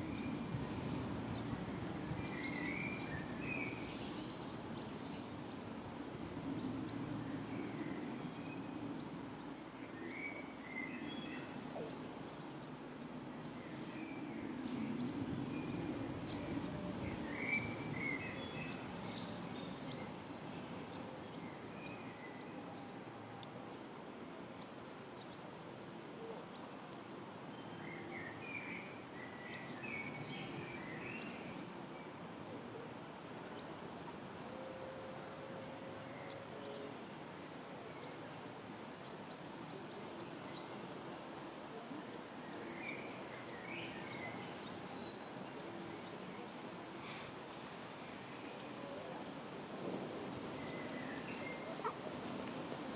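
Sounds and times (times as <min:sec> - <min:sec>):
low steady background noise: 0:00.0 - 0:52.9.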